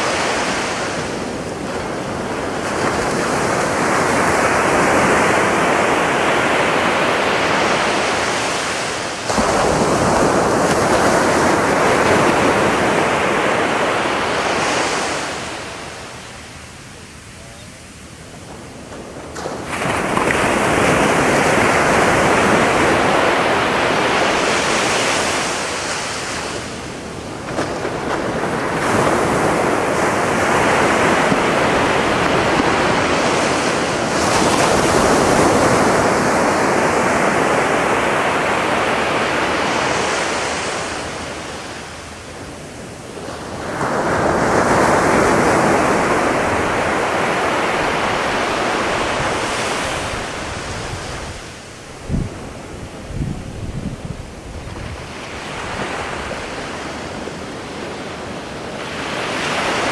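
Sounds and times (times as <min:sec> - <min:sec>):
waves crashing on beach: 0:00.0 - 0:59.9.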